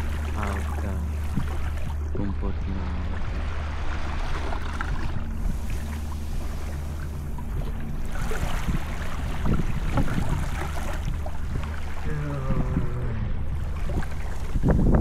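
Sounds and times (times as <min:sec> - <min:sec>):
low rumble: 0:00.0 - 0:15.0
small waves lapping on sand: 0:00.0 - 0:15.0
wind: 0:00.0 - 0:15.0.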